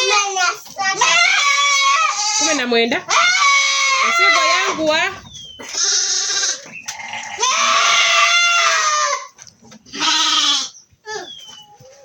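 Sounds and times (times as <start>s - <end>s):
goats bleating: 1.0s - 10.8s.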